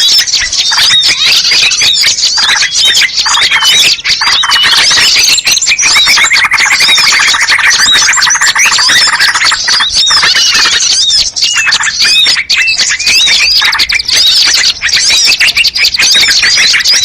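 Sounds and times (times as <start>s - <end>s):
harsh buzzy bird chatter: 0.0s - 17.0s
songbirds chirping: 0.0s - 17.0s.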